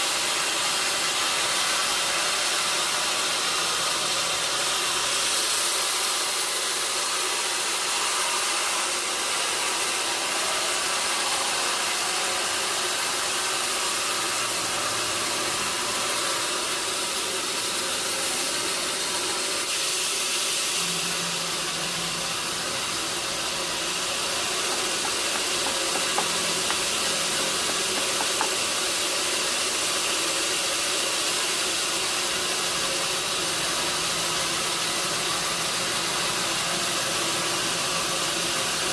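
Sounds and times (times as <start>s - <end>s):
sawmill machinery sawing log: 0.0s - 38.9s.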